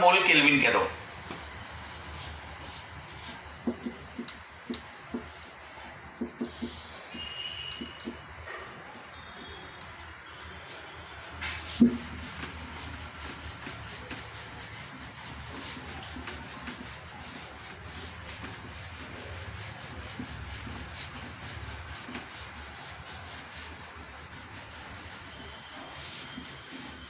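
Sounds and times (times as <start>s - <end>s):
eraser wiping whiteboard: 1.2s - 5.4s, 6.1s - 8.2s, 9.2s - 27.0s.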